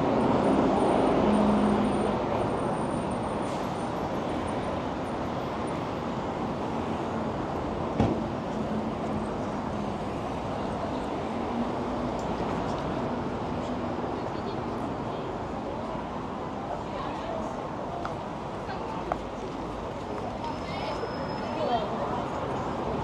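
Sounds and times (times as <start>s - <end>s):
traffic: 0.0s - 23.0s.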